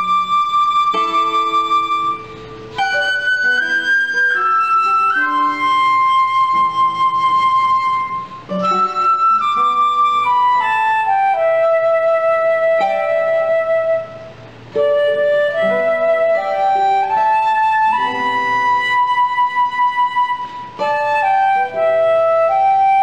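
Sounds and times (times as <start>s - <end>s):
flute melody: 0.0s - 23.0s
plucked classical guitar: 0.0s - 23.0s.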